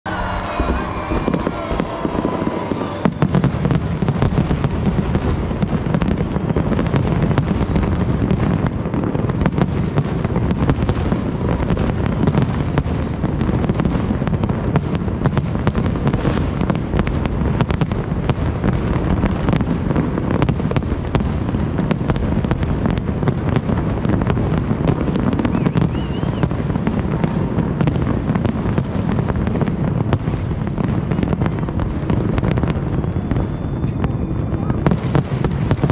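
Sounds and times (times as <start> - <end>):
firework booms and crackles: 0.1 - 35.9.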